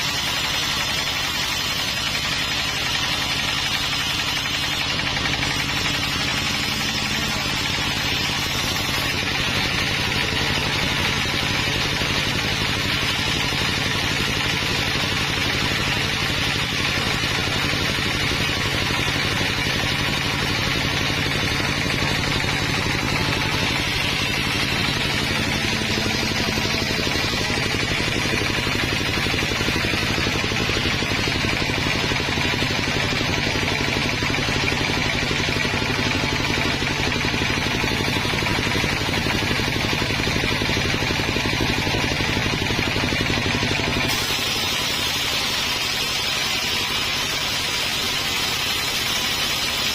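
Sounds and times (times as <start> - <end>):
sawmill engine drone: 0.0 - 49.9.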